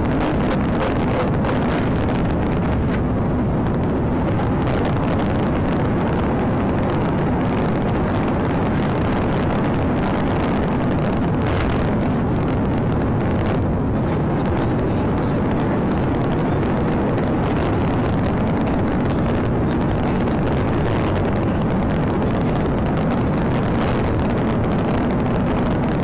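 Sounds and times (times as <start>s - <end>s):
road and wind noise: 0.0s - 26.0s.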